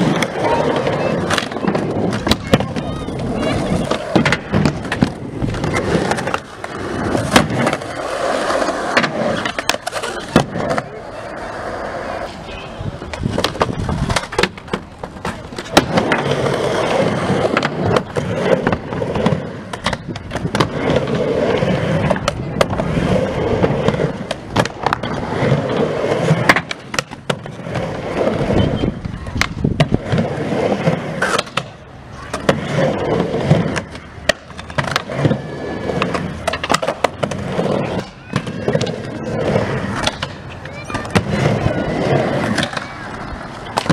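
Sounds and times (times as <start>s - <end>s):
skateboard clacking on ramp: 0.0s - 10.9s, 12.3s - 22.9s, 23.5s - 28.3s, 29.0s - 43.9s
skateboard wheels rolling on ramp: 0.0s - 43.9s.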